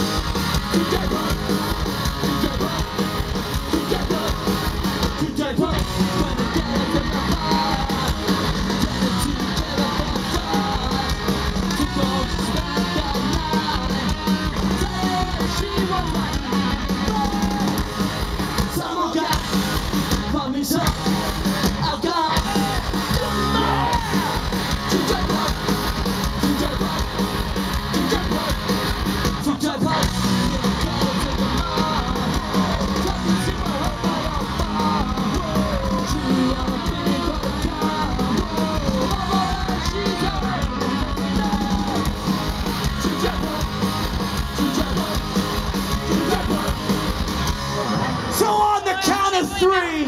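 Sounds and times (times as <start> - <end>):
punk rock band playing live: 0.0 - 50.0
shouted singing: 0.6 - 17.9, 18.6 - 19.6, 21.6 - 27.3, 27.9 - 47.2.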